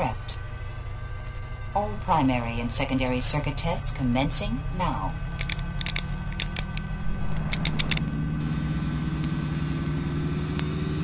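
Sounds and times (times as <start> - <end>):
low electronic drone: 0.0 - 11.0.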